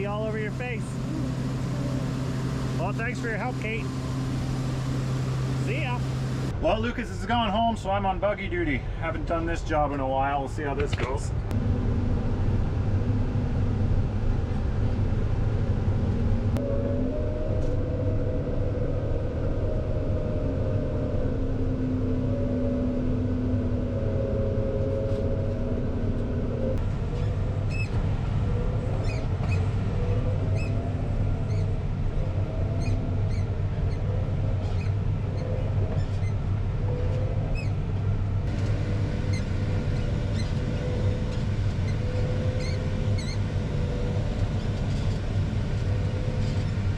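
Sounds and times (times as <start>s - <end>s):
tractor engine droning: 0.0s - 8.8s, 11.0s - 46.9s.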